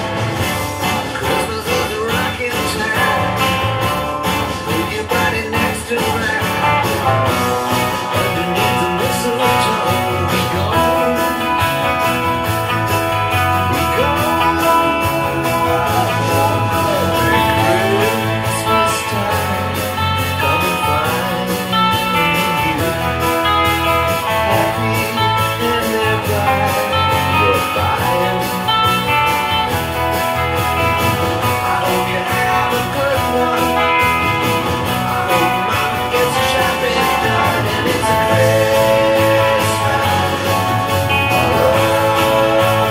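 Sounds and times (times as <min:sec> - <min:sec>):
electric guitar strummed: 0:00.0 - 0:42.9
rock band track: 0:00.0 - 0:42.9.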